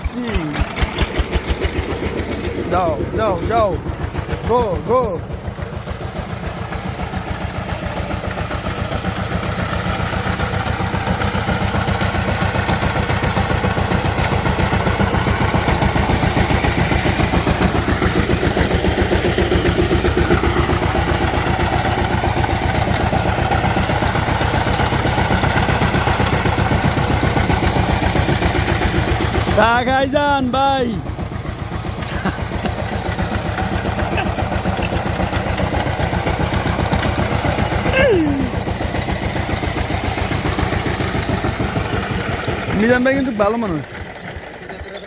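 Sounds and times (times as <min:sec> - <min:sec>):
diesel tiller engine running: 0:00.0 - 0:45.0.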